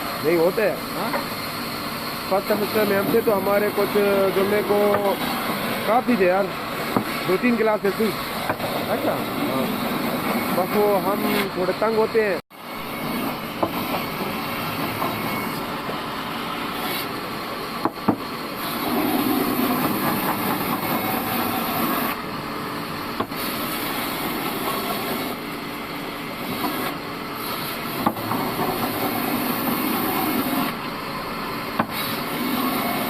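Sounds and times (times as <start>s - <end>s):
band saw cutting log: 0.0s - 33.0s.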